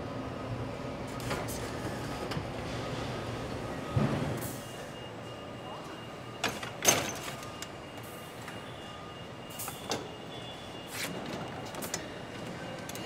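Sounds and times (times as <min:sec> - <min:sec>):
machinery hum with high whine: 0:00.0 - 0:13.0.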